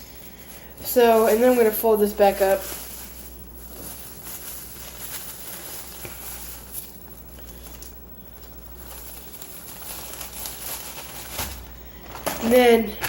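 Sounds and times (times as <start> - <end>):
plastic bag rustling: 0.0 - 13.0
steady low hum: 0.0 - 13.0.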